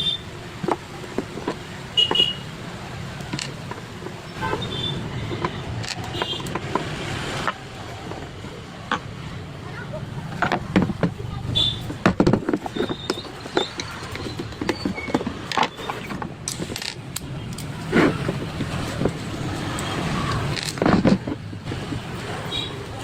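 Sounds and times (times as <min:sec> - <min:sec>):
metal parts and tools clicking: 0:00.0 - 0:09.1, 0:10.2 - 0:22.7.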